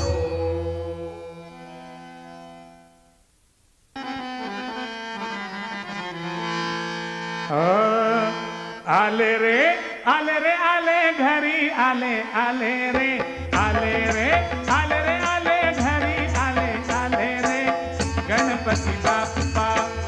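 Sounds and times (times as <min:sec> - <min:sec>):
harmonium chords: 0:00.0 - 0:03.2, 0:04.0 - 0:20.0.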